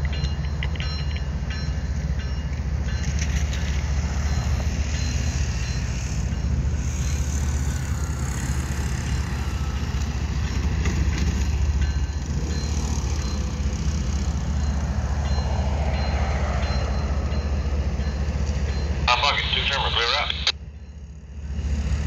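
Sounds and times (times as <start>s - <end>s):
distant diesel locomotive rumble: 0.0s - 22.0s.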